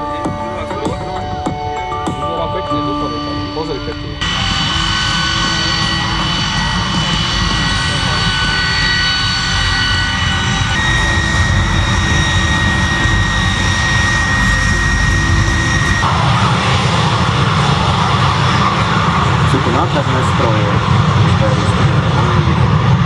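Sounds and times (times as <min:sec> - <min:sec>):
aircraft turbine engine whine: 0:00.0 - 0:23.0.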